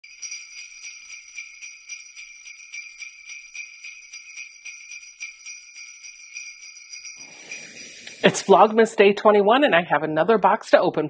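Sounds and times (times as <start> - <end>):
jingle bells shaken: 0.0 - 9.0.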